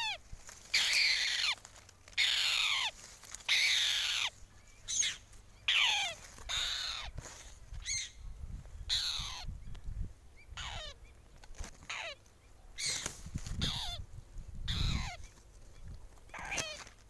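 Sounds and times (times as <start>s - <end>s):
hawk chicks screeching: 0.0s - 8.2s, 8.9s - 9.6s, 10.4s - 14.0s, 14.6s - 15.4s, 16.2s - 17.0s.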